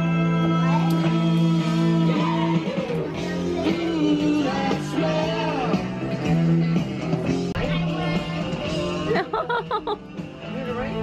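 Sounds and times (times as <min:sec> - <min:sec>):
rock and roll song: 0:00.0 - 0:11.0.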